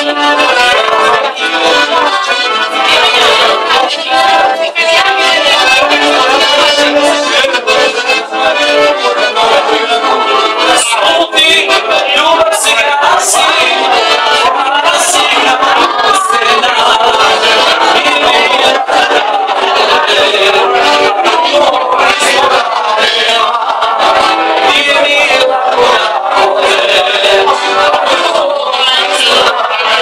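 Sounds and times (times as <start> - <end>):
accordion folk dance music: 0.0 - 30.0.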